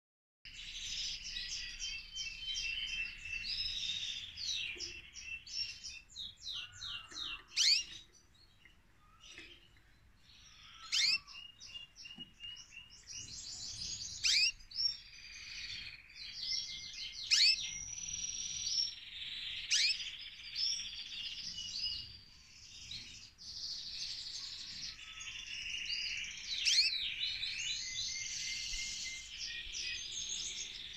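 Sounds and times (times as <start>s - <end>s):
canary singing trills: 0.5s - 30.9s.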